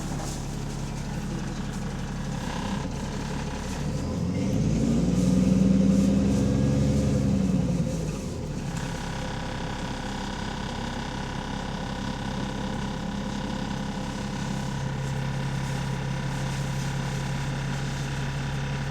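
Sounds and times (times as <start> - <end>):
diesel bus engine pulling away: 0.0 - 18.9.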